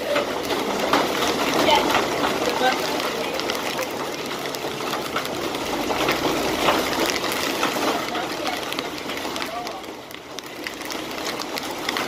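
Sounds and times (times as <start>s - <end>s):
raindrops pattering: 0.0s - 12.0s
wind-driven rain rushing: 0.0s - 12.0s.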